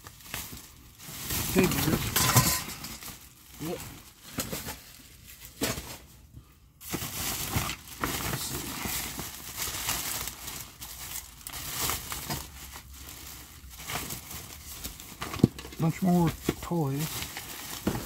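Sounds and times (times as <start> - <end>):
plastic trash bag crinkling: 0.0 - 18.0.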